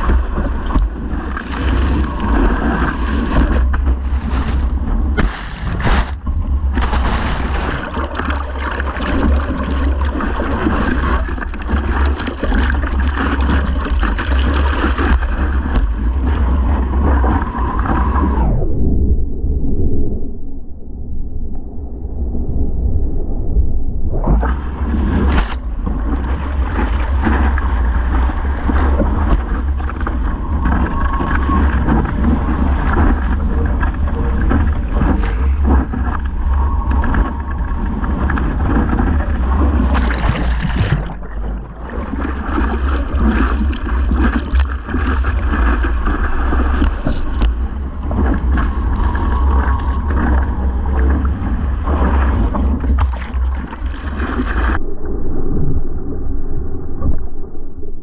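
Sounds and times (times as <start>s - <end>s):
seawater splashing and rushing: 0.0s - 18.8s, 24.1s - 54.8s
heavy low rumble: 0.0s - 58.0s.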